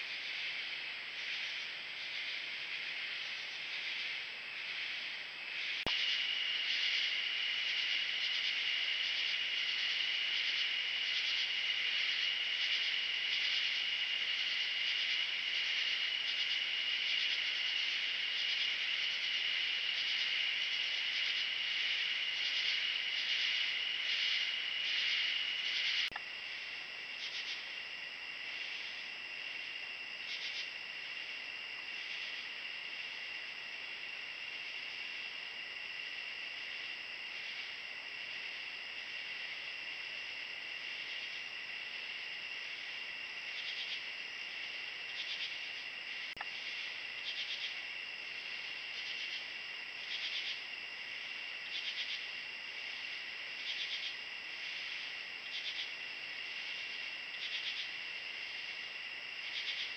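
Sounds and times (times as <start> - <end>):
fast pulsing insect chirr: 0.0 - 59.9
insects trilling: 0.0 - 59.9.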